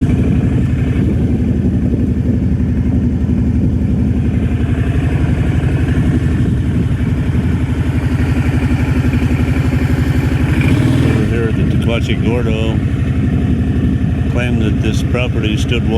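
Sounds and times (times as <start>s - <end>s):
vehicle engine pulsing: 0.0s - 15.9s.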